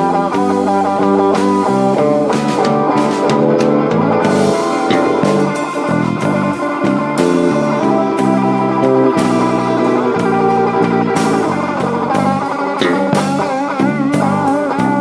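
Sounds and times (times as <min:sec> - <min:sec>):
guitar: 0:00.0 - 0:15.0
live blues band playing: 0:00.0 - 0:15.0.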